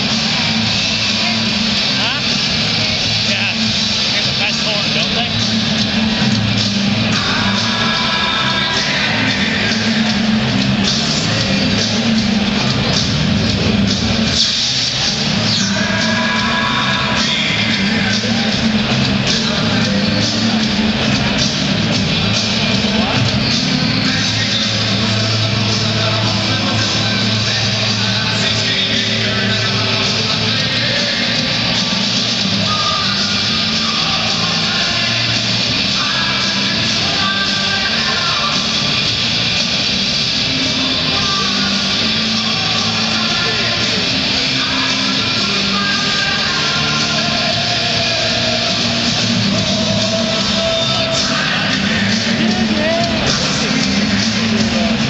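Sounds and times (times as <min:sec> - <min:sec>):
loud rock music with electric guitar: 0:00.0 - 0:55.0
person singing: 0:06.2 - 0:13.2, 0:14.3 - 0:55.0.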